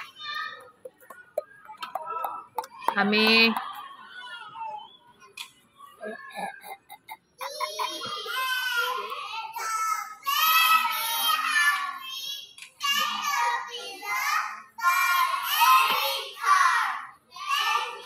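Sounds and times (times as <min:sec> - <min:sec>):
children chanting and singing: 0:00.0 - 0:02.9, 0:05.8 - 0:18.0.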